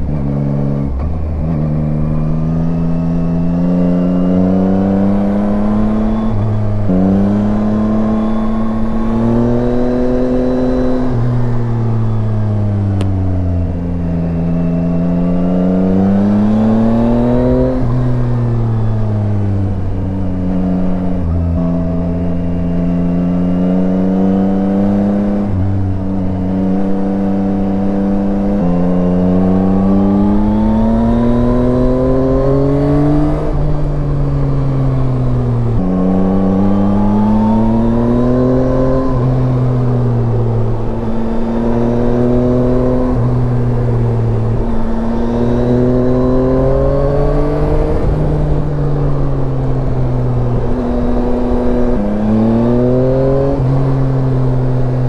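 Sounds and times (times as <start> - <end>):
motorcycle engine revving through gears: 0.0 - 55.0.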